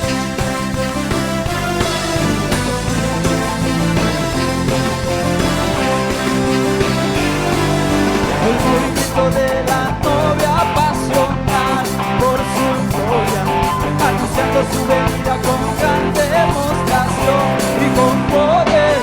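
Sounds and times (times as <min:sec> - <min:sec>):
worship band music with guitar: 0:00.0 - 0:19.0.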